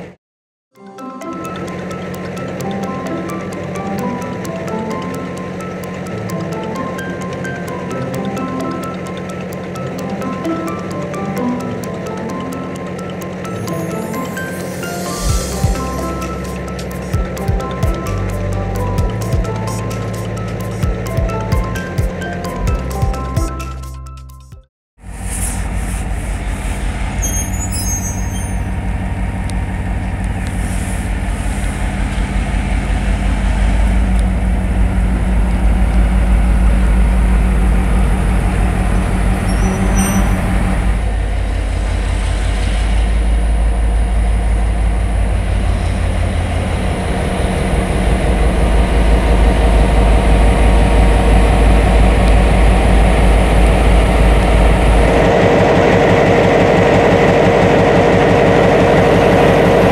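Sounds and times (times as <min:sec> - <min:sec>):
diesel locomotive engine running: 0:01.2 - 0:24.0, 0:25.0 - 0:59.9.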